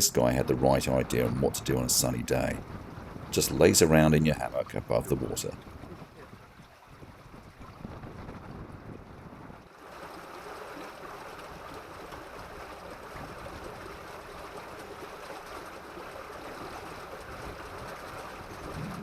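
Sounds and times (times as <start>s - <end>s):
water rushing and splashing: 0.0s - 8.9s, 9.6s - 19.0s.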